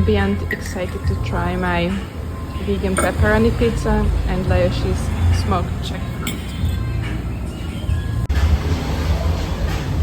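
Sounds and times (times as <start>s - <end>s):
background music with heavy bass: 0.0s - 10.0s.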